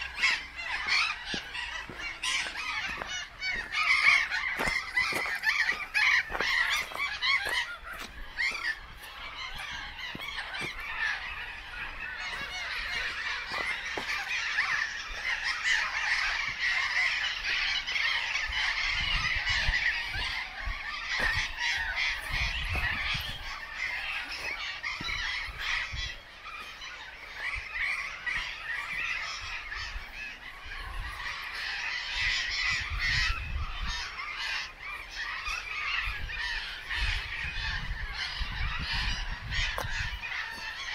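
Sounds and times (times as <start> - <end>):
flock of geese honking: 0.0 - 40.9.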